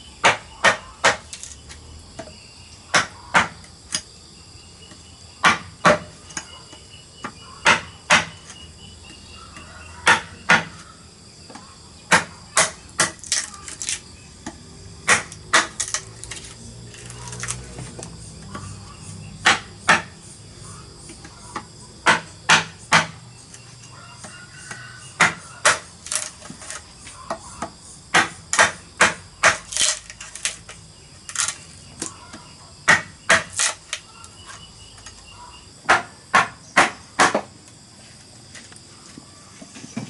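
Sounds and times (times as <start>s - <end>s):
insects chirring: 0.0s - 40.0s
hammer striking chisel in bamboo: 0.2s - 1.6s, 2.2s - 4.1s, 4.9s - 10.8s, 11.5s - 18.8s, 19.4s - 20.2s, 21.1s - 35.2s, 35.8s - 37.5s.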